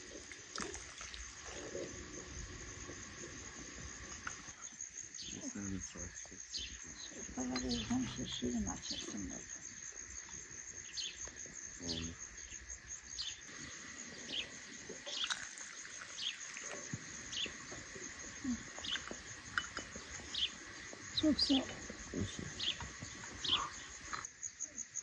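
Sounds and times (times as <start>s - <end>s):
bird chirping: 4.5s - 24.8s.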